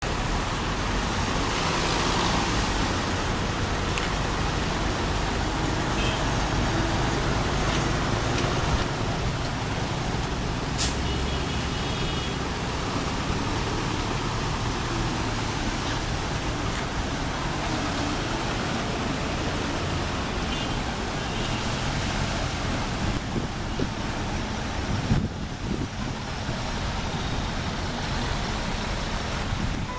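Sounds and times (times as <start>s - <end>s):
road traffic noise: 0.0s - 29.9s.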